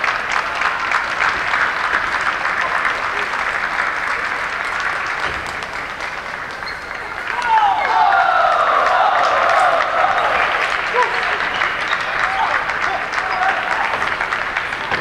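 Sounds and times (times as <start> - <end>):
large crowd applauding: 0.0 - 15.0.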